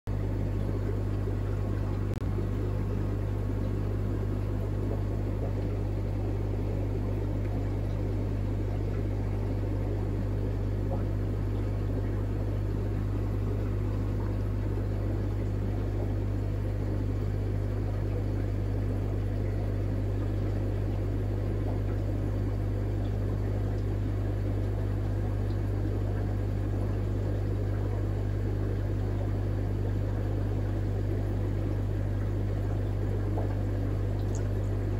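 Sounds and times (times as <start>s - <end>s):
air bubbling: 0.1s - 34.9s.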